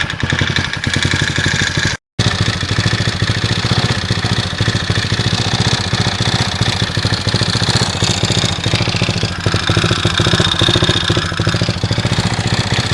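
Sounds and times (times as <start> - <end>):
engine knocking: 0.0 - 12.9
scooter engine idling: 0.0 - 12.9.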